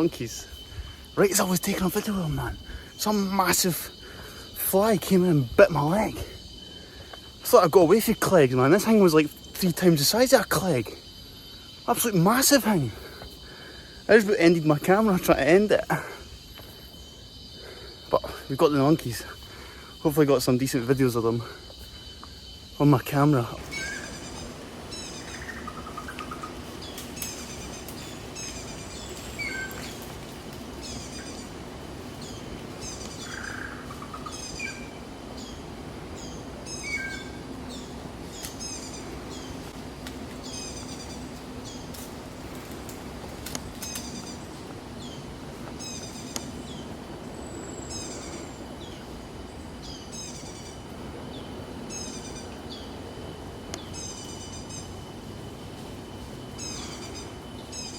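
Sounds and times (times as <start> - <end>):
bird calling: 0.0 - 39.8, 40.4 - 42.5, 43.4 - 53.1, 53.7 - 55.0, 56.6 - 57.9
rainforest background: 0.0 - 57.9.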